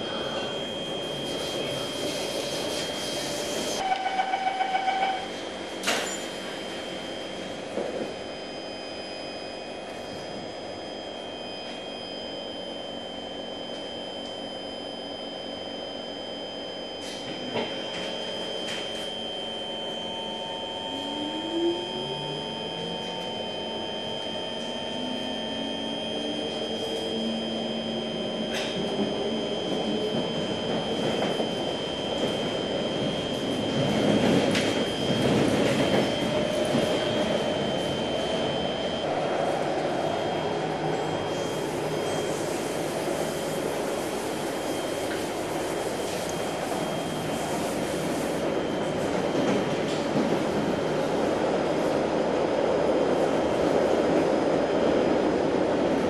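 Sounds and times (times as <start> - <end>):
door-closing warning beeps: 0.0 - 39.1, 40.1 - 51.2
rising train motor whine: 0.0 - 56.0
train carriage hum: 0.0 - 56.0.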